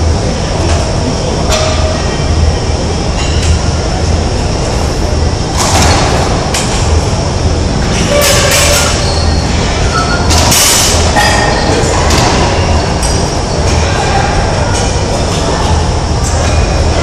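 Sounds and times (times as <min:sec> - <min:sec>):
loud rumble of gym hall: 0:00.0 - 0:17.0.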